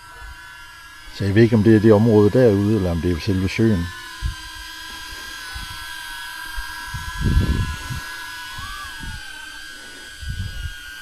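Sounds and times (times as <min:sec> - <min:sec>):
high-pitched motor whine: 0:00.0 - 0:11.0.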